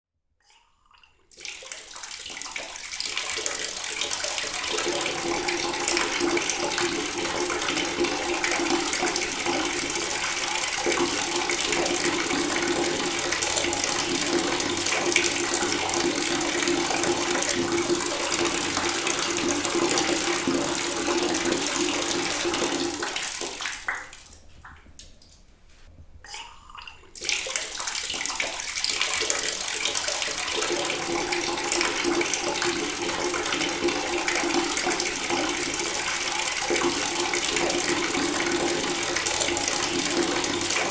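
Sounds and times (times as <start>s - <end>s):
water gushing from a tap: 1.4s - 25.0s, 27.2s - 40.9s.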